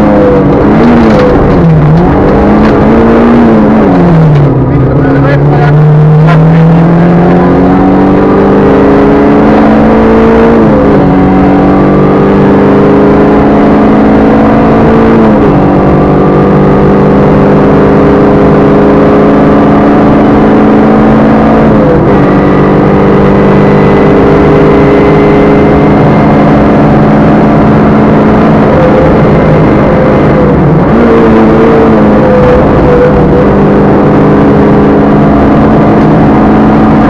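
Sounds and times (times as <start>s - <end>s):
car engine at high revs: 0.0s - 37.0s.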